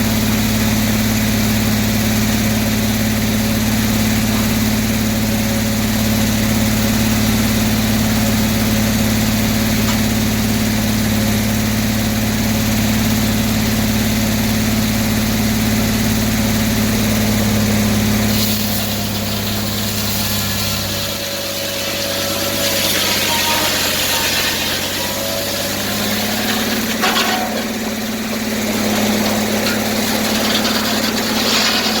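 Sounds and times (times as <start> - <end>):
circular sawmill running: 0.0 - 32.0.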